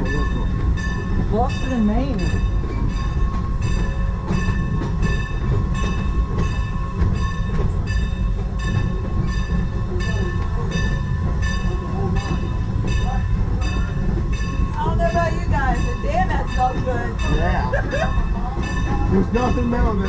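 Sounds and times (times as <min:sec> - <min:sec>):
bell ringing: 0:00.0 - 0:20.0
steam train rumbling: 0:00.0 - 0:20.0.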